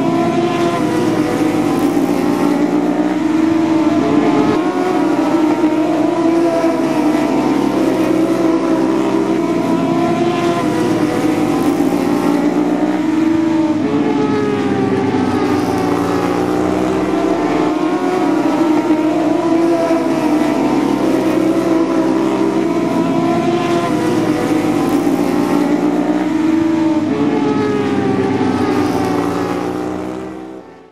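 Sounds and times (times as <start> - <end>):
racing motorbike engines revving: 0.0 - 30.9.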